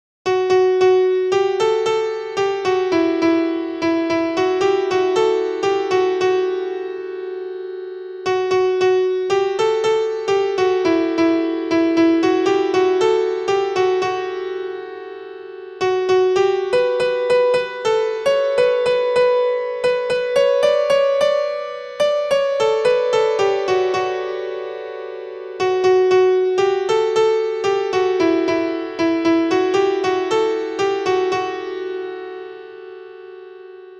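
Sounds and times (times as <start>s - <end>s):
piano ringtone melody: 0.3s - 33.9s.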